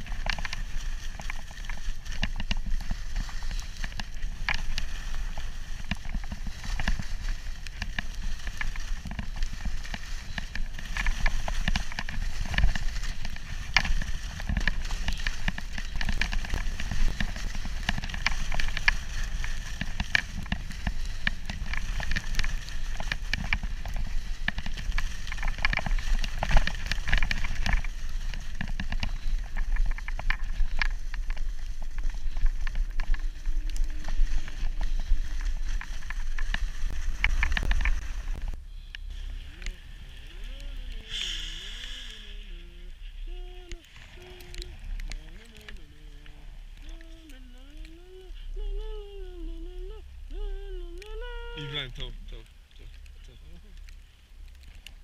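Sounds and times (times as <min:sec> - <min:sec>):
skis scraping over snow: 0:00.0 - 0:55.0
wind rumbling on microphone: 0:00.0 - 0:55.0.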